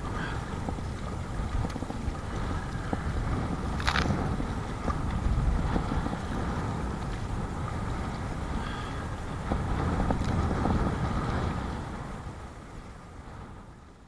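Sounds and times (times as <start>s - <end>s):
water splashing against kayak: 0.0s - 13.9s
choppy water: 0.0s - 14.0s
wind buffeting microphone: 0.0s - 14.0s.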